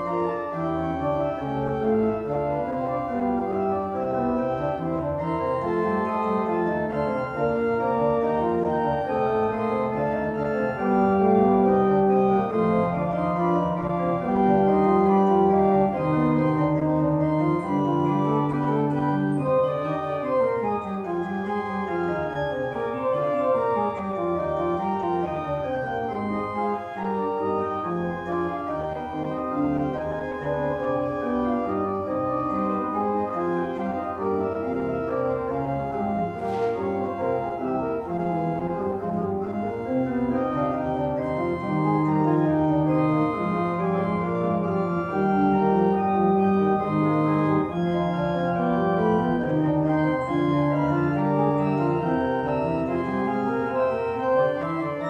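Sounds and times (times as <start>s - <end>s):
church organ playing chords: 0.0s - 55.0s.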